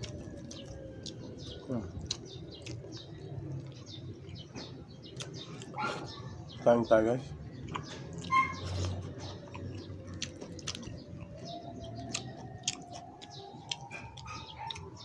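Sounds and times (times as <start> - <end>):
person chewing and lip-smacking: 0.0 - 6.1, 7.6 - 15.0.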